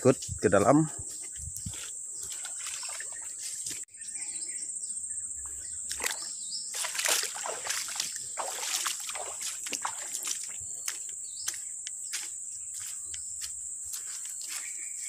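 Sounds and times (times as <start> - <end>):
high drone of insects: 0.0 - 15.0
feet splashing through muddy water: 0.6 - 3.9, 5.8 - 14.9.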